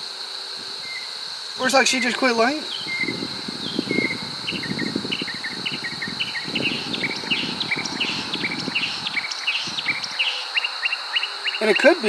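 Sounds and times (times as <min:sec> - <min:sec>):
honey bees buzzing: 0:00.0 - 0:12.0
steady high whine: 0:00.0 - 0:12.0
rapid high chirps: 0:00.9 - 0:12.0.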